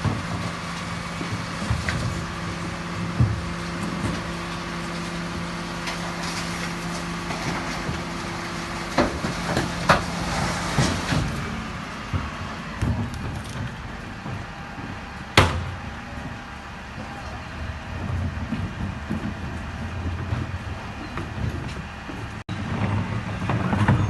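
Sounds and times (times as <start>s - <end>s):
garbage truck engine drone: 0.0s - 24.0s
sharp knocks and bangs: 0.0s - 24.0s.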